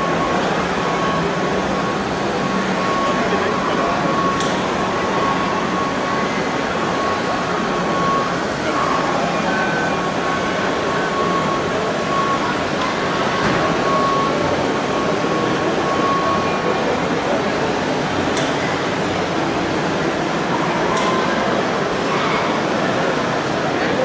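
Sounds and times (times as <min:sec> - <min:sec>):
crowd talking in a hall: 0:00.0 - 0:24.0.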